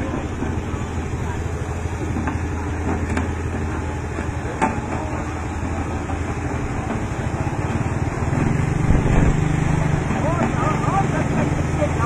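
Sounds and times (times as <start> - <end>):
road roller diesel engine: 0.0 - 12.0.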